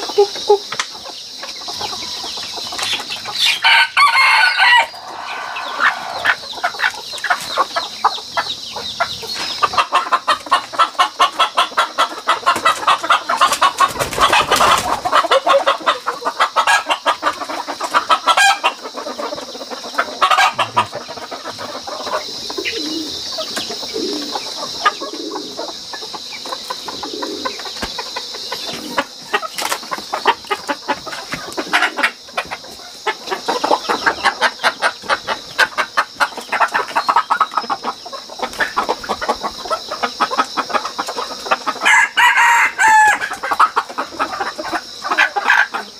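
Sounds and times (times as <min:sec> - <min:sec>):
chickens clucking and squawking: 0:00.0 - 0:45.9.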